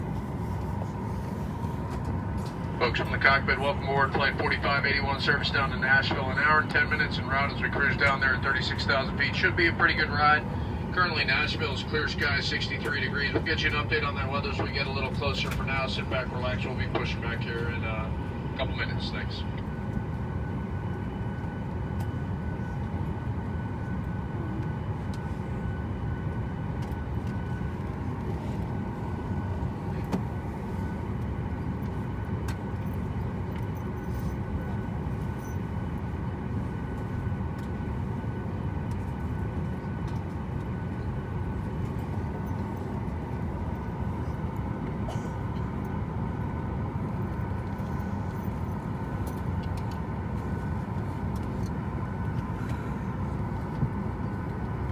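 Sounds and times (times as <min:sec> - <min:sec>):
air-conditioning airflow rumble: 0:00.0 - 0:54.9.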